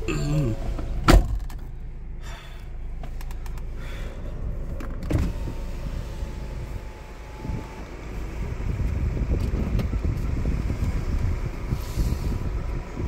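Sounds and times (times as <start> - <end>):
idling car hum: 0.0 - 13.0.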